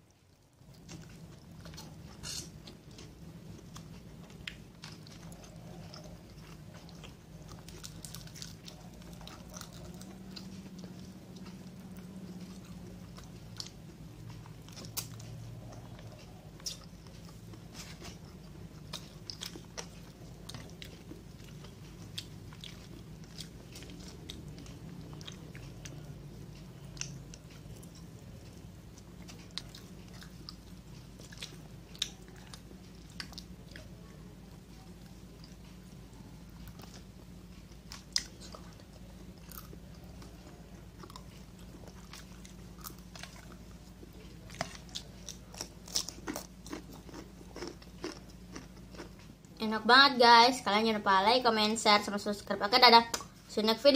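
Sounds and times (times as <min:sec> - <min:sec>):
steady low hum: 0:00.0 - 0:53.9
chewing and biting food: 0:00.1 - 0:49.6.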